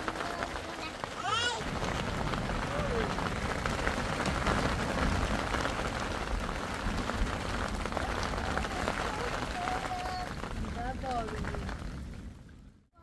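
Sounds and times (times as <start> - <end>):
steady rain falling: 0.0 - 12.9.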